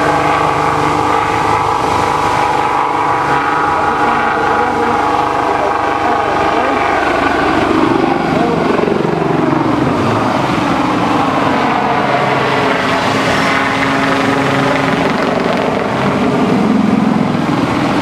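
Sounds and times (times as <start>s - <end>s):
helicopter flying overhead: 0.0s - 18.0s.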